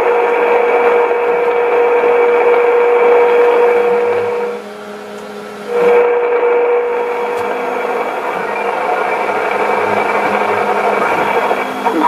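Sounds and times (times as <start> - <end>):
radio static hiss: 0.0 - 12.0
steady whistle: 0.0 - 12.0.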